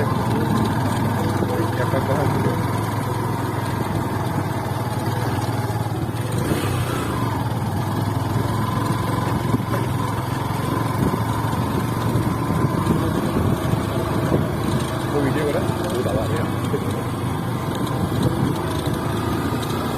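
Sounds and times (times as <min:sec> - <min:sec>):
motorcycle engine running: 0:00.0 - 0:19.9
road noise: 0:00.0 - 0:19.9.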